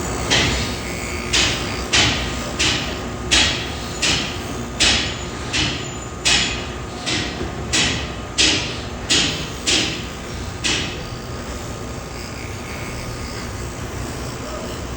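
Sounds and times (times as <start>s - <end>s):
low machine hum: 0.0s - 14.9s.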